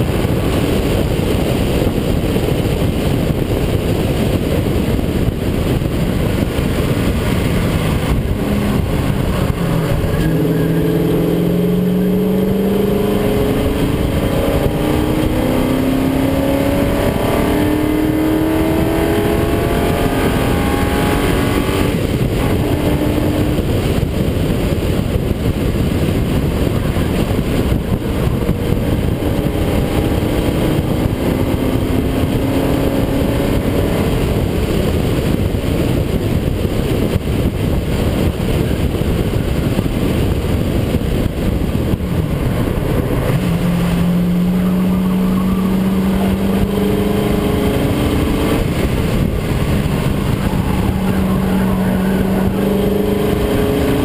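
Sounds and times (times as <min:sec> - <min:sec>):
car engine at full throttle: 0:00.0 - 0:54.0
wind and road noise: 0:00.0 - 0:54.0.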